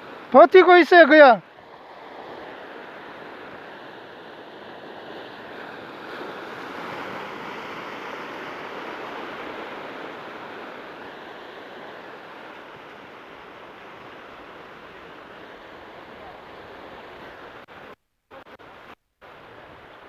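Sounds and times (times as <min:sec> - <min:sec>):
ocean surf over rocks: 0:00.0 - 0:20.0.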